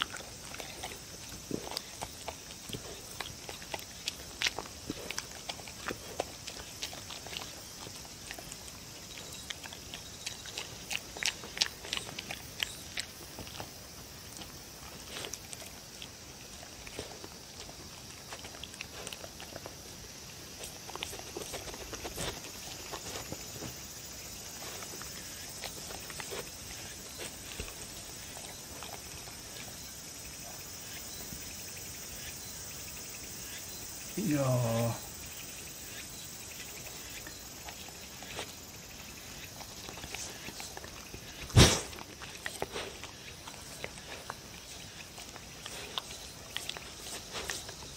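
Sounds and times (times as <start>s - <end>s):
dog licking and chewing food: 0.0s - 34.1s, 34.7s - 47.9s.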